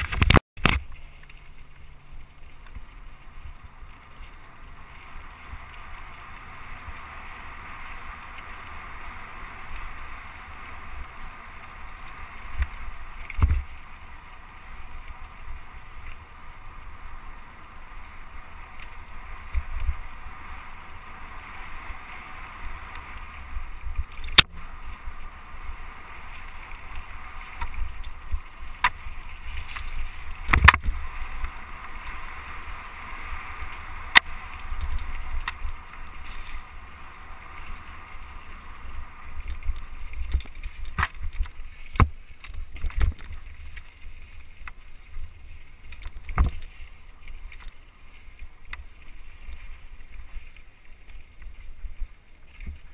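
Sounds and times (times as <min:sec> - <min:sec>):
bike tyres rumbling on dirt: 0:00.0 - 0:52.9.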